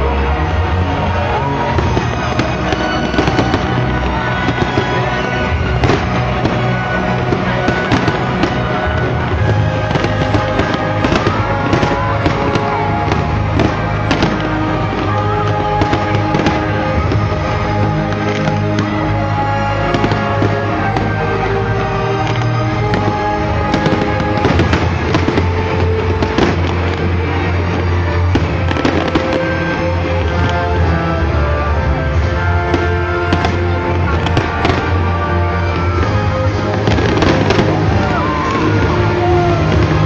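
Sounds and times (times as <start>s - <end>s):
fireworks bangs: 0.0s - 40.0s
loud music: 0.0s - 40.0s.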